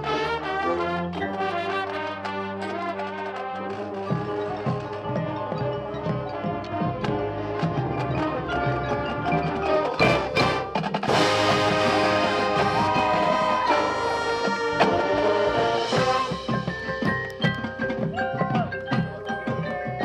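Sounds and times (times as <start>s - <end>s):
marching band playing: 0.0s - 20.0s.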